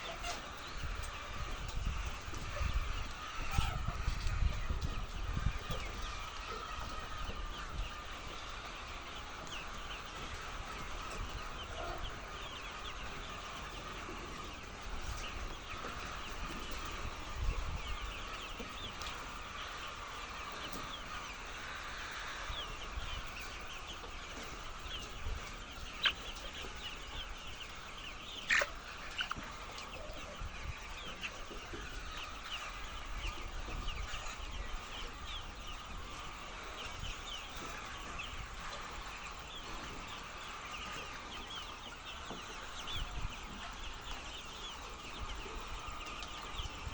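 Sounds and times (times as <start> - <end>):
hens clucking: 0.0 - 46.9.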